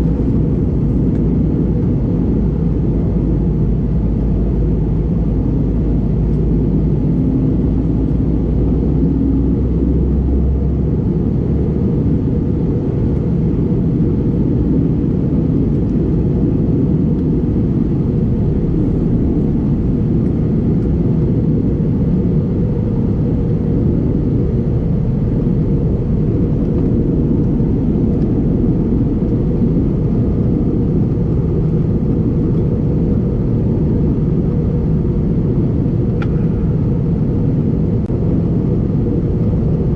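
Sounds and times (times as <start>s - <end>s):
airflow over fuselage: 0.0s - 39.9s
jet engine cabin rumble: 0.0s - 39.9s
low drone: 0.0s - 39.9s.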